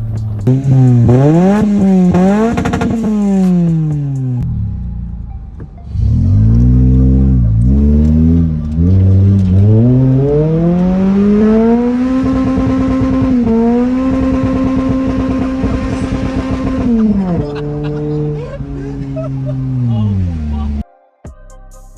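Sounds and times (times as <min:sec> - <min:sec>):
car engine revving: 0:00.0 - 0:20.8.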